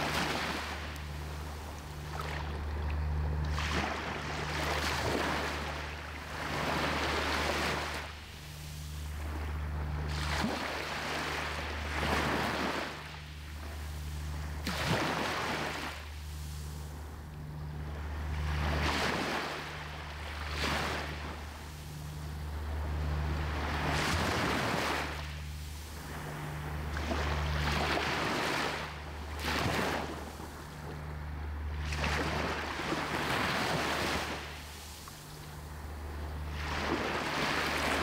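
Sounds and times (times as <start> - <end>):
waves washing up a beach: 0.0 - 17.3, 17.9 - 38.0
low steady rumble: 0.0 - 38.0.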